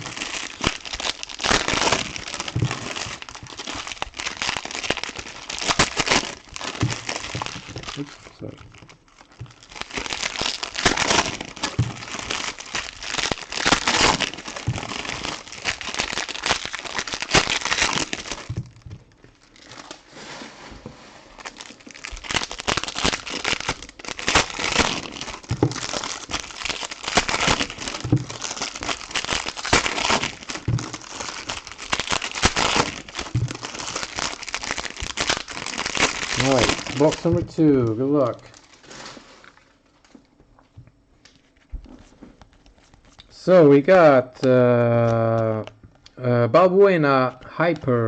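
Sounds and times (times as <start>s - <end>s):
plastic and foil wrappers crinkling: 0.0s - 48.0s.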